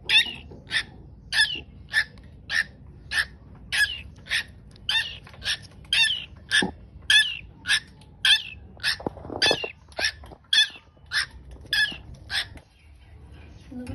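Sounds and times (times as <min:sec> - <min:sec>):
bird calling: 0:00.0 - 0:12.7.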